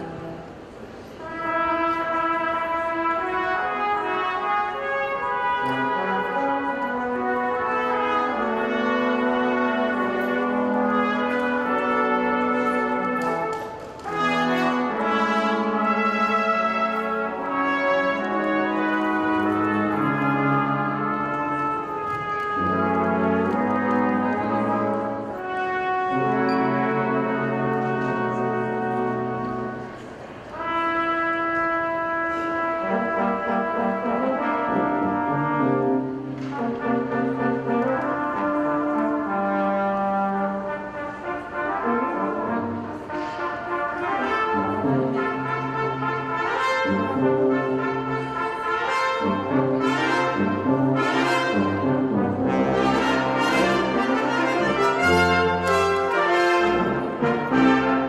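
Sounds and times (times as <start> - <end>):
brass ensemble playing: 0.0 - 58.0.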